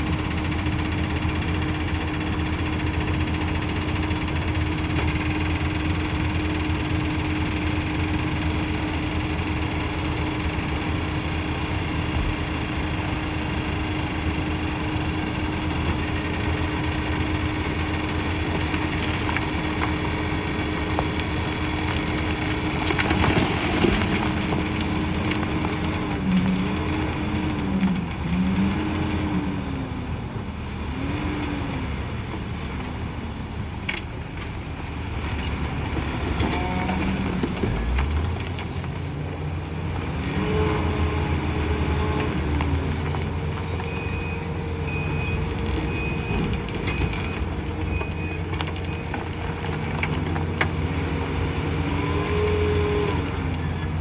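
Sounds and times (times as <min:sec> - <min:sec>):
heavy diesel engine whining: 0:00.0 - 0:54.0.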